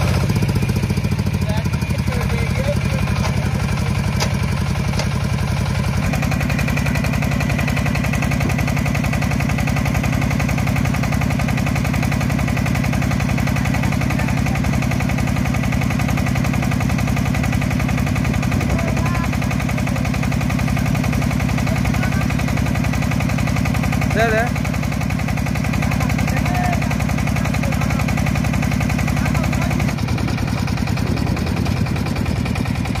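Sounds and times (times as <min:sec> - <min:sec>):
diesel engine knocking: 0:00.0 - 0:33.0.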